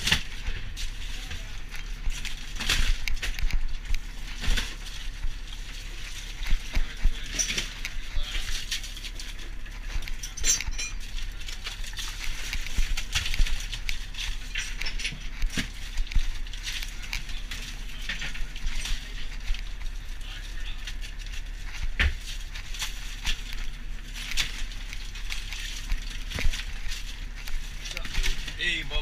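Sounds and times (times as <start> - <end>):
wet slaps of fish and ice: 0.0 - 9.4, 11.1 - 14.6, 15.2 - 19.6, 20.8 - 28.6
steady low hum: 0.0 - 29.0.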